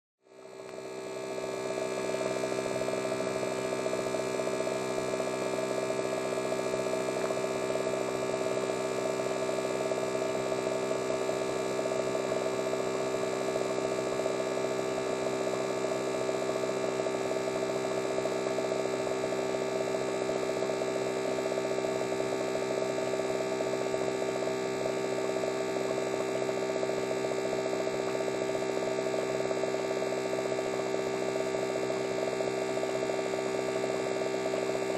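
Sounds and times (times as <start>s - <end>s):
electric hair clippers buzzing: 0.4s - 34.9s.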